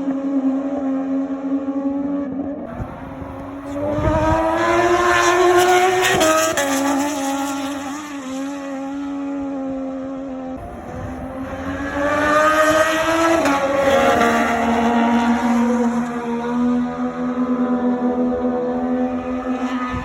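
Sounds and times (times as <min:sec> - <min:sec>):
racing motorcycle engines: 0:00.0 - 0:20.0.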